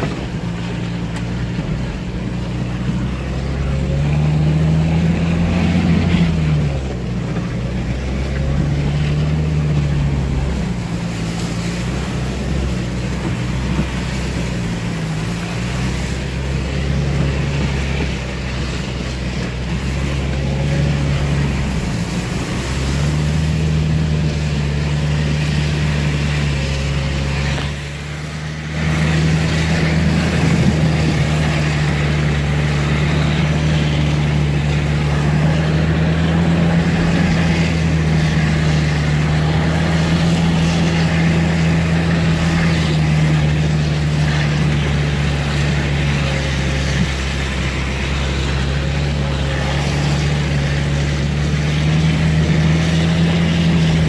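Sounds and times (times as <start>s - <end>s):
tyres churning mud: 0.0s - 54.0s
vehicle engine under load: 0.0s - 54.0s.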